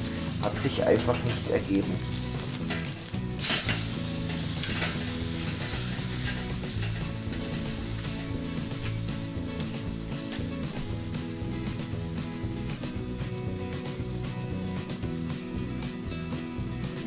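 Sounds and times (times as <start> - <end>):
steak sizzling on grill: 0.0 - 17.0.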